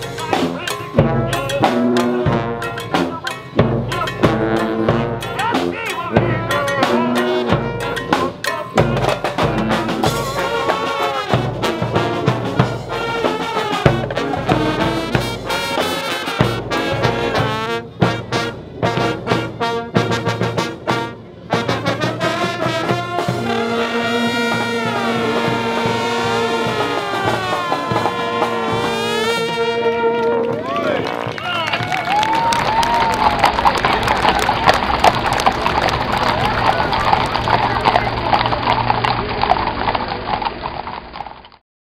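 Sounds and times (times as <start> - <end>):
brass band playing: 0.0 - 39.1.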